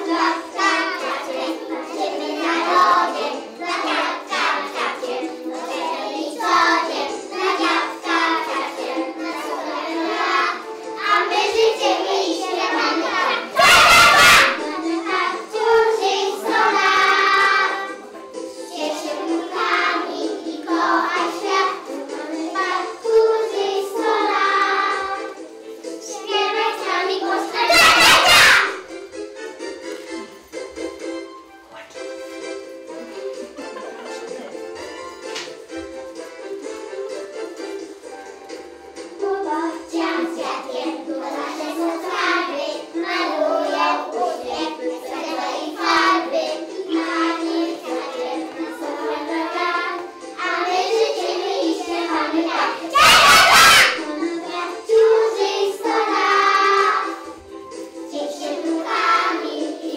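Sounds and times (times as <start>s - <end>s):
children singing: 0.0s - 28.8s, 39.0s - 59.9s
backing music: 0.0s - 59.9s.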